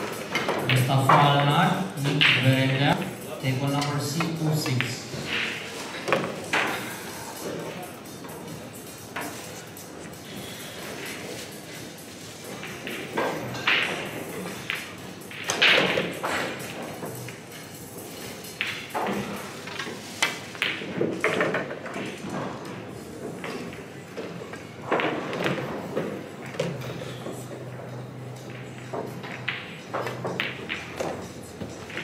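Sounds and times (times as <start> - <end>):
pool balls clacking: 0.0 - 9.6, 10.9 - 32.0.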